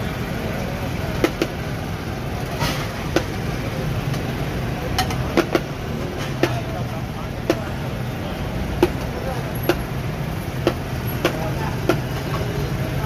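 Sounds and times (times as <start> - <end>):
street noise hum: 0.0 - 13.0.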